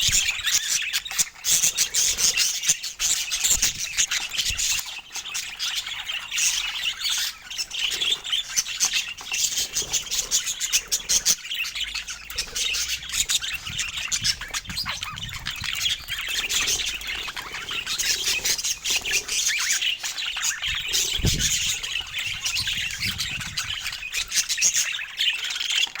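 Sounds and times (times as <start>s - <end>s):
budgerigars chattering: 0.0s - 26.0s.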